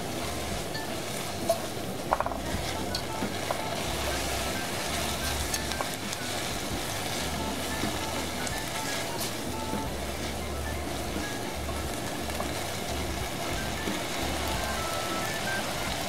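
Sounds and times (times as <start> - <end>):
fish sizzling in a pan: 0.0 - 16.0
spatula scraping a pan: 0.0 - 16.0.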